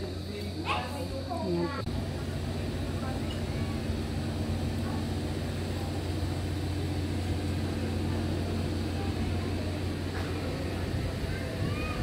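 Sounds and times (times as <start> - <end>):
constant rumble: 0.0 - 12.0
steady low hum: 0.0 - 12.0.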